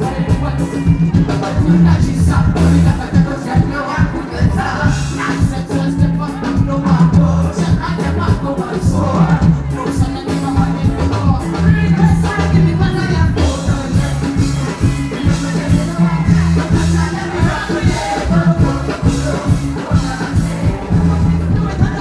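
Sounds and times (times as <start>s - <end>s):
loud music with bass and drums: 0.0s - 22.0s.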